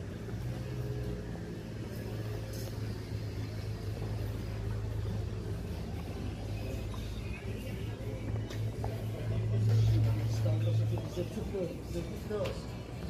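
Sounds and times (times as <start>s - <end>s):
faint street ambience: 0.0s - 13.0s
low mechanical hum: 0.0s - 13.0s.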